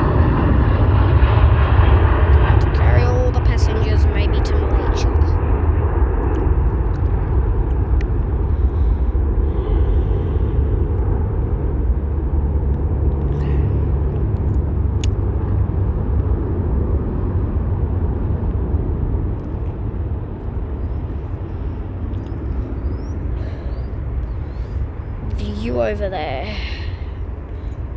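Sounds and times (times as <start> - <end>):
jet airliner taking off: 0.0 - 27.9.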